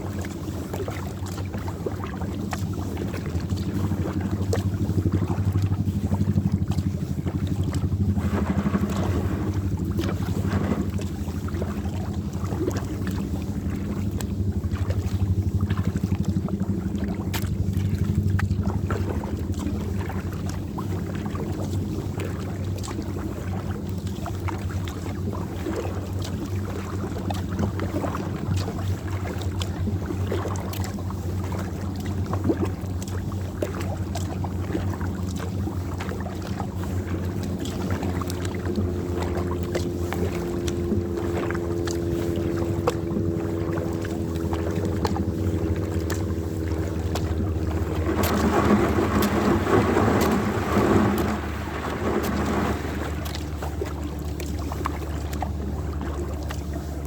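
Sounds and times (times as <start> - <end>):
steady low hum: 0.0 - 57.0
water lapping against a kayak: 0.0 - 57.0
wind rumbling on microphone: 0.0 - 57.0.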